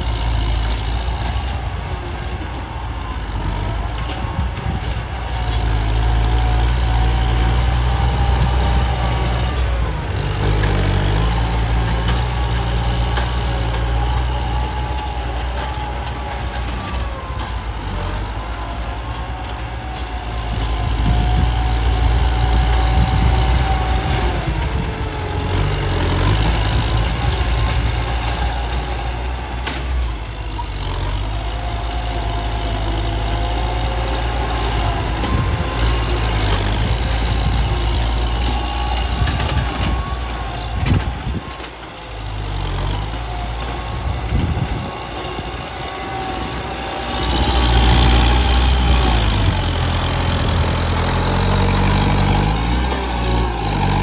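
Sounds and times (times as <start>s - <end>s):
heavy truck engine rumbling: 0.0s - 54.0s.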